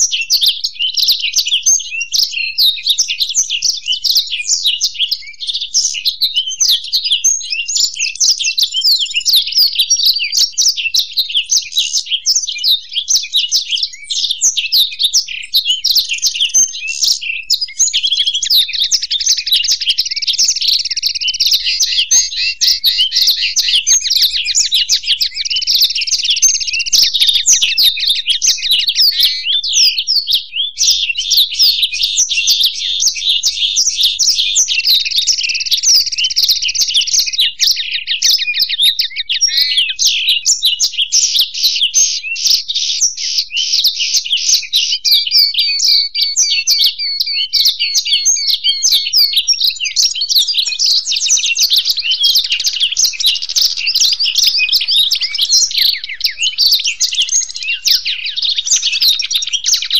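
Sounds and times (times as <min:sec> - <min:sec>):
bird trill: 0:00.0 - 0:59.9
birds twittering song: 0:00.0 - 0:59.9.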